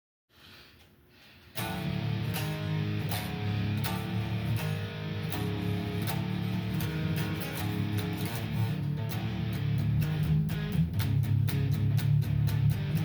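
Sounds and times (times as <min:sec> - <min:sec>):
metal guitar riff: 0:01.6 - 0:13.0.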